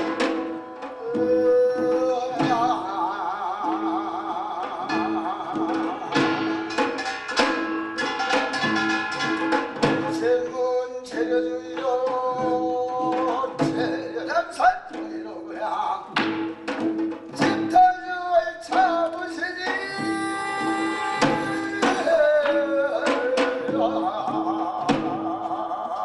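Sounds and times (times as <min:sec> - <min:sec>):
man singing a chant: 0:00.0 - 0:06.6, 0:10.0 - 0:16.2, 0:17.4 - 0:26.0
percussion strikes: 0:00.0 - 0:26.0.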